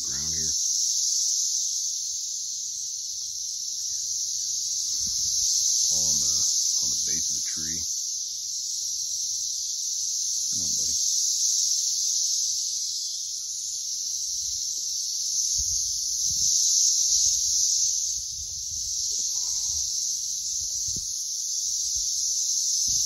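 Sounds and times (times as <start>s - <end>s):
cicadas droning buzz: 0.0s - 23.0s.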